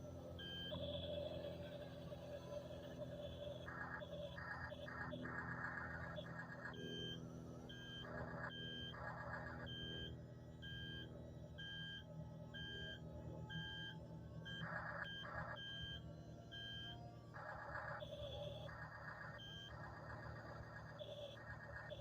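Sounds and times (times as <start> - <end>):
low hum of drive motors: 0.0 - 22.0
electronic reversing beep: 0.4 - 12.0, 12.6 - 22.0.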